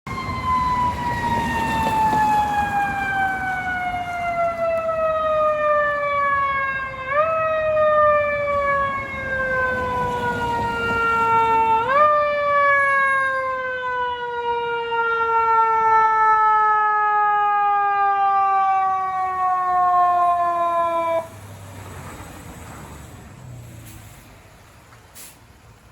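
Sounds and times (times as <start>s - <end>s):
fire engine siren wailing: 0.0s - 24.0s.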